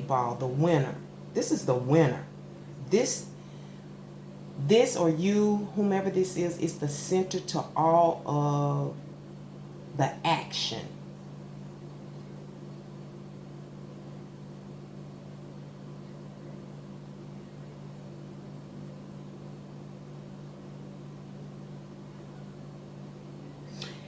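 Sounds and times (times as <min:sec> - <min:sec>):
low hum with hiss: 0:00.0 - 0:24.0.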